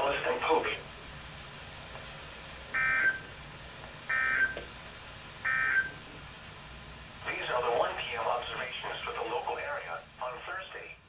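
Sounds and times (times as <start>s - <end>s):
faint radio hiss: 0.0s - 11.0s.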